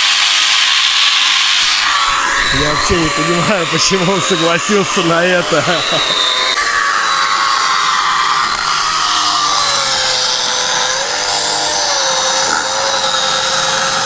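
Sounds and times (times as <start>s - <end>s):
power saw cutting log: 0.0s - 14.0s.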